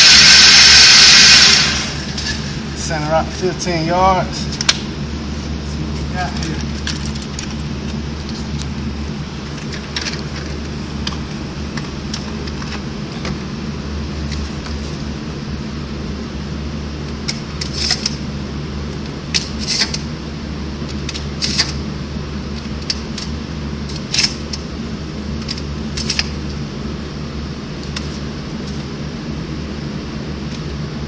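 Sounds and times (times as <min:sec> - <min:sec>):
low hum of shooting range: 0:00.0 - 0:31.0.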